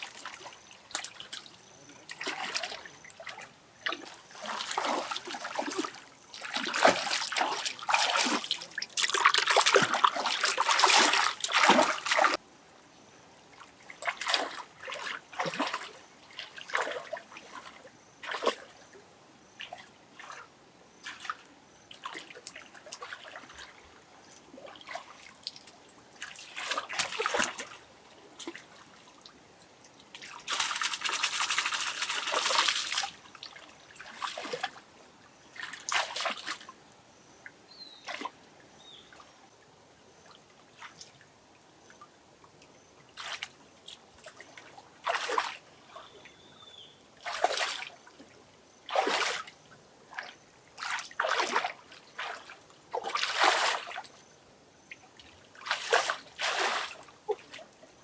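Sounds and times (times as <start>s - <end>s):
water splashing and sloshing: 0.0s - 12.4s, 13.5s - 18.8s, 19.6s - 36.8s, 38.0s - 42.0s, 43.0s - 46.4s, 47.2s - 58.0s.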